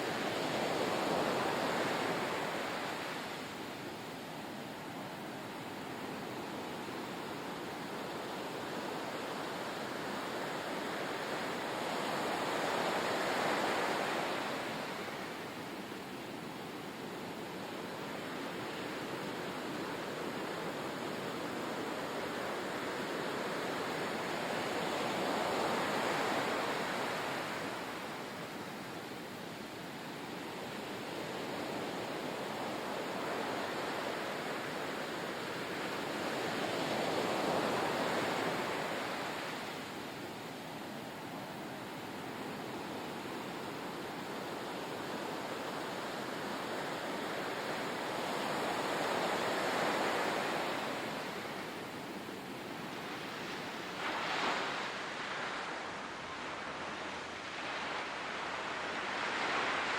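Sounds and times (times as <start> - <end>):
waves washing in and drawing back: 0.0 - 59.9.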